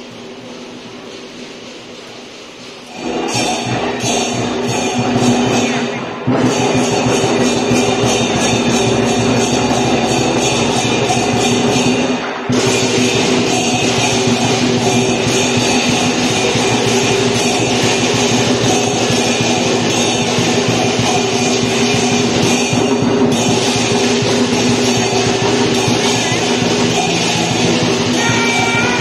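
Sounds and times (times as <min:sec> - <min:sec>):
clashing cymbals: 0:00.0 - 0:29.0
drums: 0:00.0 - 0:29.0.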